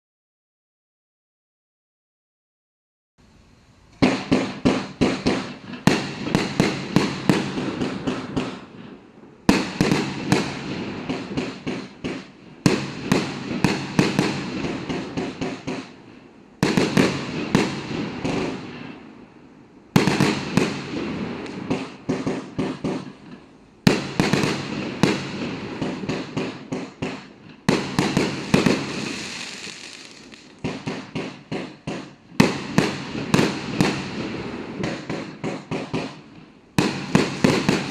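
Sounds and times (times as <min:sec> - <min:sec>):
firework cracks and bangs: 0:03.9 - 0:19.0, 0:19.9 - 0:37.9.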